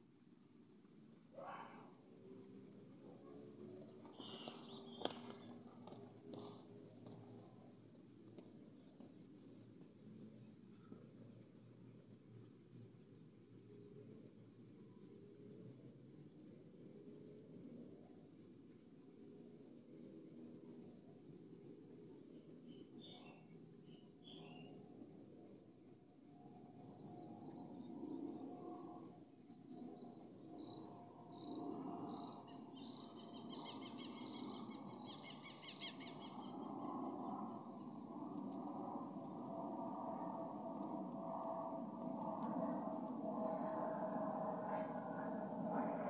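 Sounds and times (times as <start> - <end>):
insects chirping: 0.0 - 46.0.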